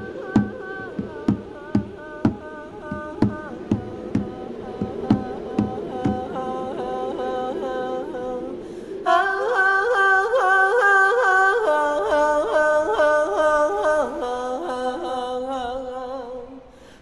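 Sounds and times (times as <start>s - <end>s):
woman singing a cappella: 0.0s - 16.7s.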